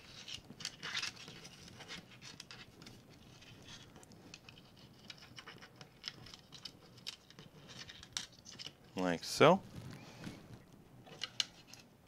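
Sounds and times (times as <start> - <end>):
wires and plastic connectors rustling: 0.0 - 12.0.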